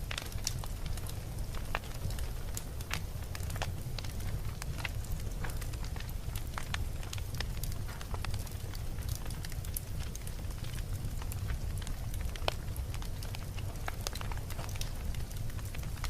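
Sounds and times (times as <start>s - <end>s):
low rumble of flame: 0.0s - 16.0s
wood crackling and popping: 0.0s - 16.0s.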